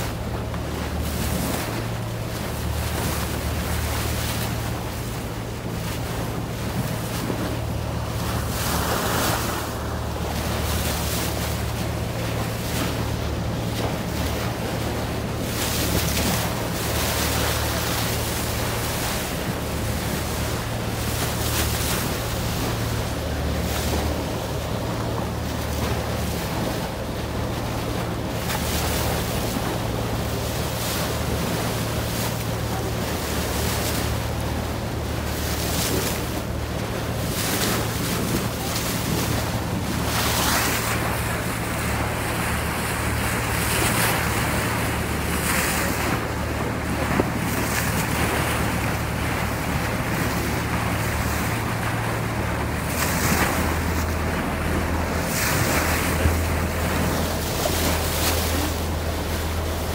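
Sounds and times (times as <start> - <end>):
boat engine hum: 0.0 - 59.9
water splashing along hull: 0.0 - 59.9.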